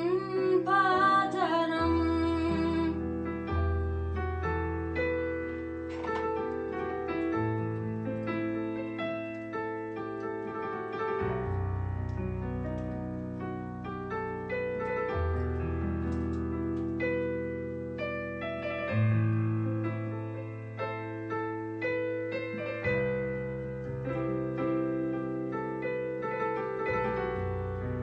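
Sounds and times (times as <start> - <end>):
slow gentle piano music: 0.0 - 28.0.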